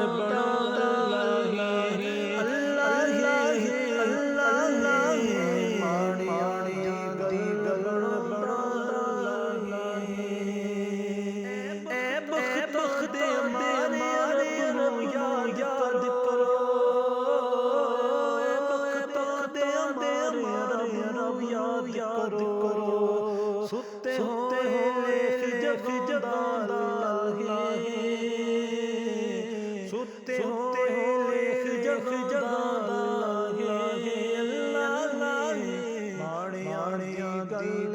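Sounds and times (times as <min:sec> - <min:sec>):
person singing devotional song: 0:00.0 - 0:37.9.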